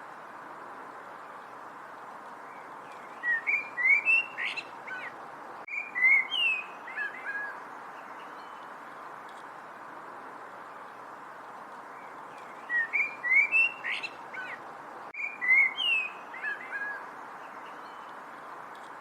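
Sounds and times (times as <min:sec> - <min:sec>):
steady background hiss: 0:00.0 - 0:19.0
songbird chirping: 0:00.7 - 0:09.6, 0:10.2 - 0:19.0.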